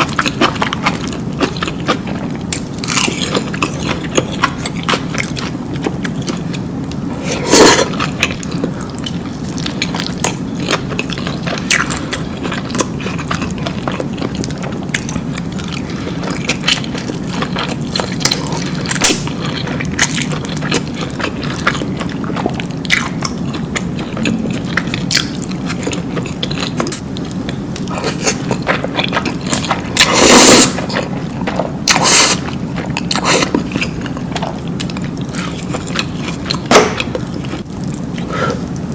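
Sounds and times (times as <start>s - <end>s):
person biting and chewing food: 0.0s - 38.8s.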